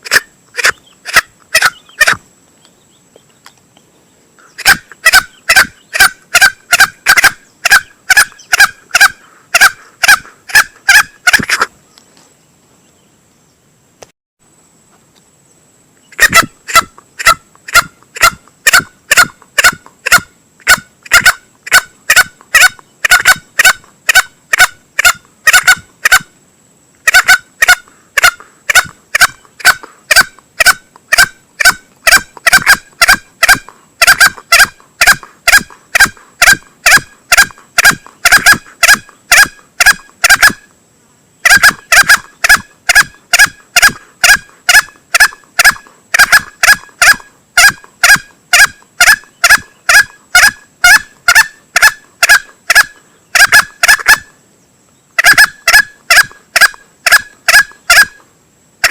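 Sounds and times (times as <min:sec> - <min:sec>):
junglefowl calls: 0:00.0 - 0:02.2, 0:04.4 - 0:11.8, 0:16.1 - 0:26.4, 0:27.0 - 0:40.7, 0:41.4 - 0:54.4, 0:55.2 - 0:58.9.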